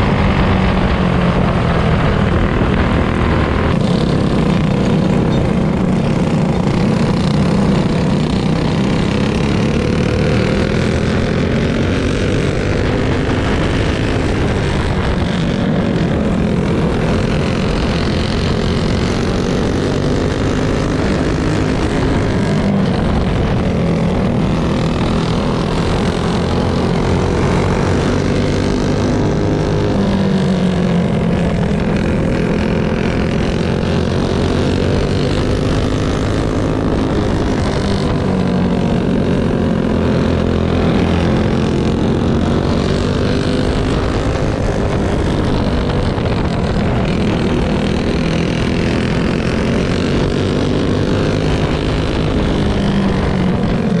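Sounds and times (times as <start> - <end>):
go-kart engine revving: 0.0 - 54.0
other go-kart engines: 0.0 - 54.0.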